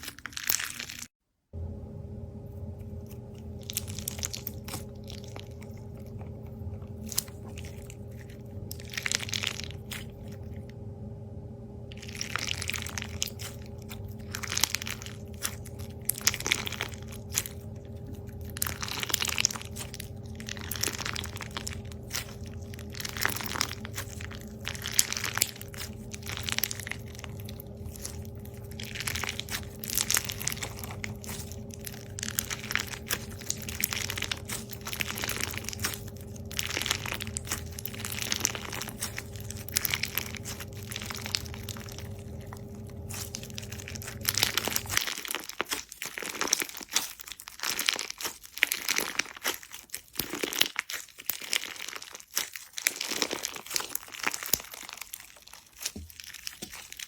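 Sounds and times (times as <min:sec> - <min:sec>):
slime squeezed crackling: 0:00.0 - 0:01.1, 0:02.6 - 0:10.7, 0:11.9 - 0:57.0
faint steady hum: 0:00.0 - 0:47.0.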